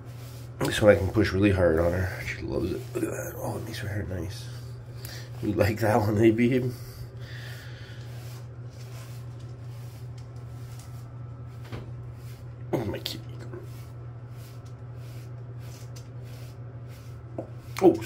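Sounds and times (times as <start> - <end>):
brush swishing on fur: 0.0 - 18.0
steady low hum: 0.0 - 18.0.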